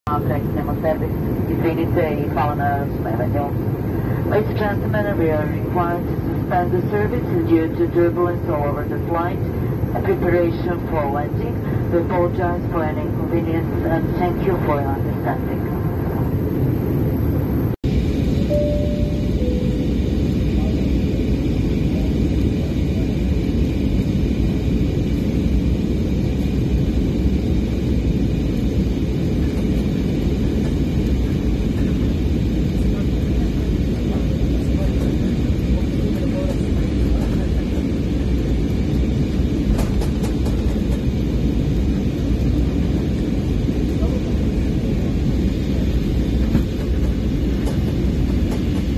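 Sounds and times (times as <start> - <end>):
airliner cabin rumble: 0.1 - 48.9.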